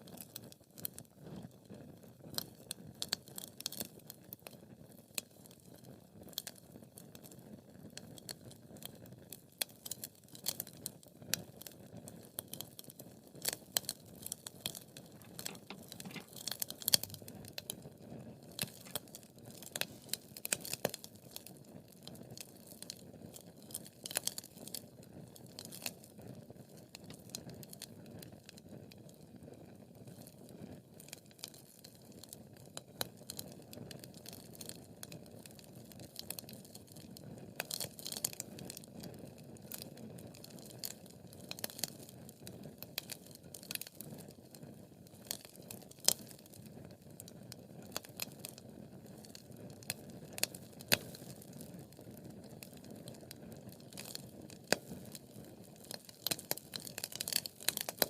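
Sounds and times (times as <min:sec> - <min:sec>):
wood fire crackling: 0:02.3 - 0:04.2, 0:09.5 - 0:10.7, 0:11.4 - 0:30.4, 0:31.0 - 0:58.0.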